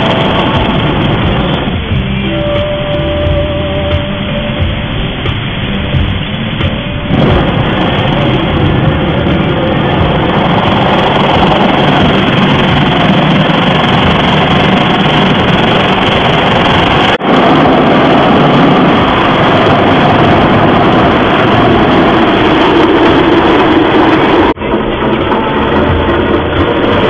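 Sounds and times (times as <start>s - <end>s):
car wash brushes and water jets: 0.0s - 27.0s.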